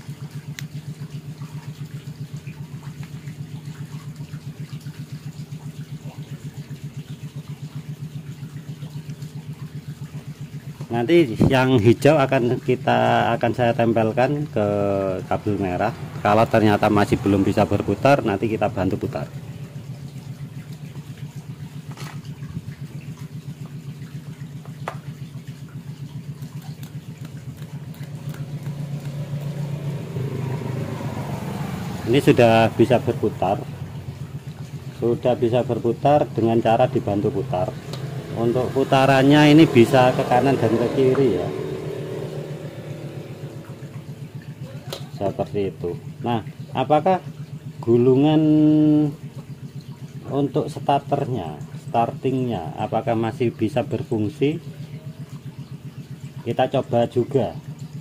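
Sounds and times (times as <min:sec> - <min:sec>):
motor humming with pulsing throb: 0:00.0 - 0:58.0.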